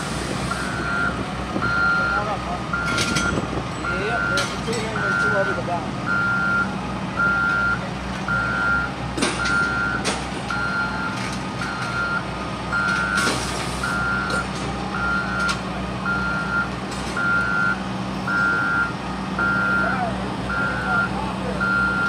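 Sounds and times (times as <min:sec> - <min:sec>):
truck backup alarm beeping: 0:00.0 - 0:22.0
truck engine running: 0:00.0 - 0:22.0.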